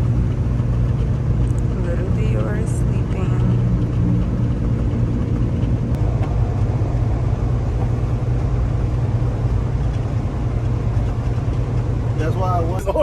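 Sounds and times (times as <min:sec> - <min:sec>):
truck diesel engine drone: 0:00.0 - 0:13.0.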